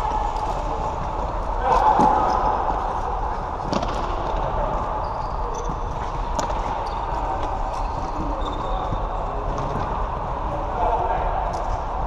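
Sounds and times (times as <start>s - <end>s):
echoing sports hall noise: 0.0s - 12.0s.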